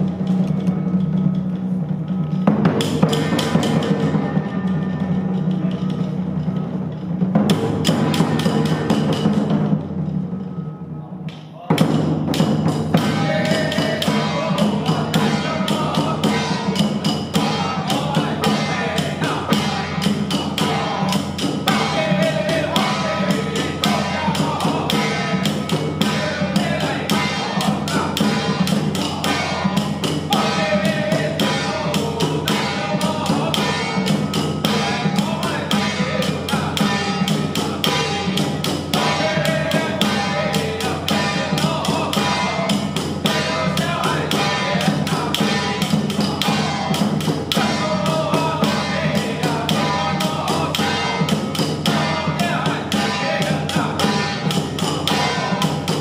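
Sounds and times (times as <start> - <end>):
sustained temple melody: 0.0 - 11.1, 12.4 - 56.0
rapid percussion strikes: 0.0 - 56.0.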